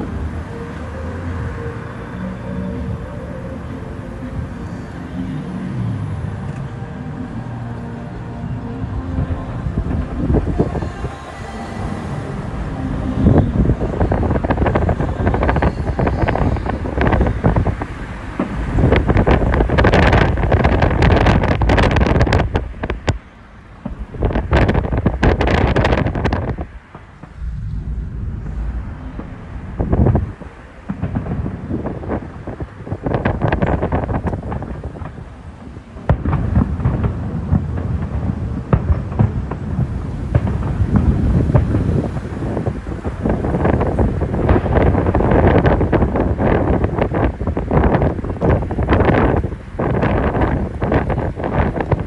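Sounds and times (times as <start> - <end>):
car rumble: 0.0 - 52.0
fireworks bangs and crackles: 0.0 - 52.0
wind buffeting microphone: 8.0 - 52.0.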